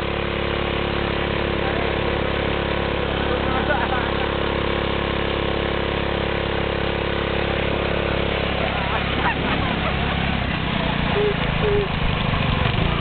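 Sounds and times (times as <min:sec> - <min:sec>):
lawnmower engine running: 0:00.0 - 0:13.0.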